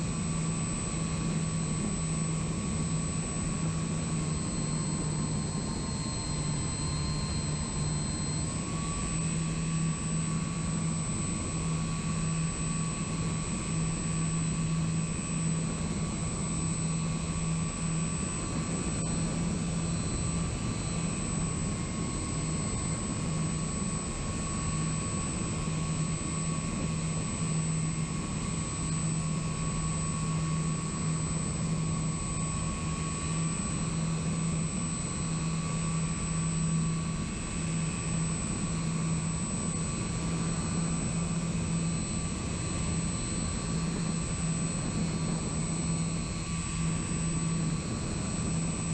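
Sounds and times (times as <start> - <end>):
model plane motors droning: 0.0 - 48.9.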